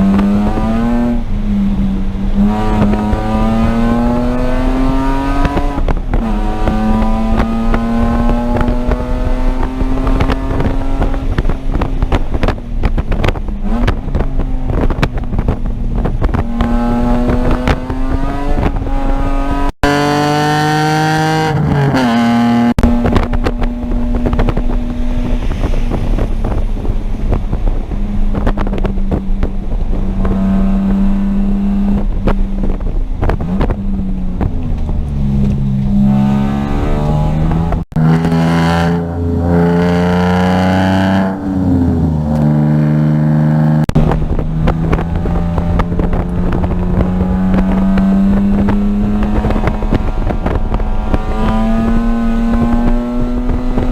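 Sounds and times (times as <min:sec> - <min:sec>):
race car engine accelerating: 0:00.0 - 0:53.9
wind buffeting microphone: 0:00.0 - 0:53.9.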